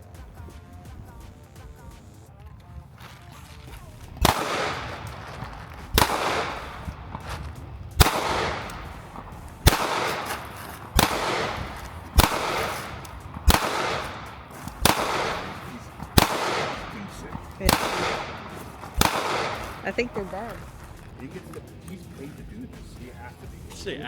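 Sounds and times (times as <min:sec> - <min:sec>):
gunshots with echo: 0:03.6 - 0:23.8.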